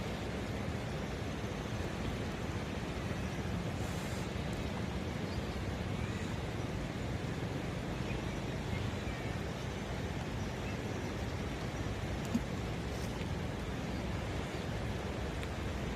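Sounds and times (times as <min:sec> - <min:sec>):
floodwater rushing through weir: 0:00.0 - 0:15.9.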